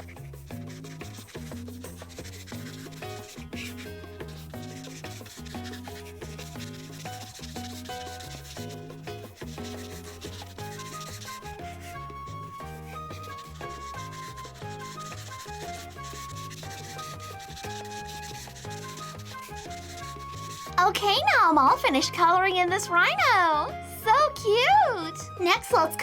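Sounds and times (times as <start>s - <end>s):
marker rubbing across paper: 0.0s - 22.2s
background music: 0.0s - 26.0s.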